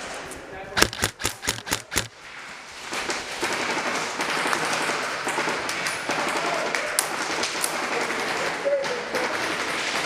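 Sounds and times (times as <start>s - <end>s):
airsoft fire patter: 0.8s - 10.0s.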